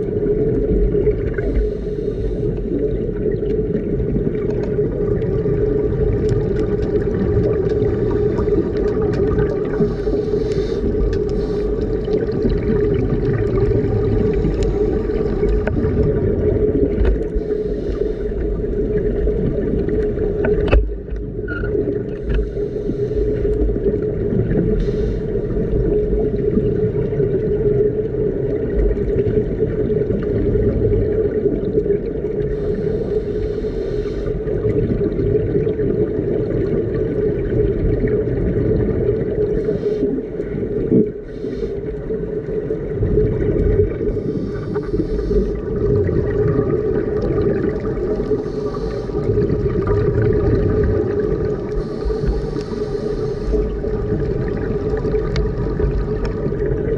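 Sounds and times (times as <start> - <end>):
underwater boat engine hum: 0.0 - 56.9.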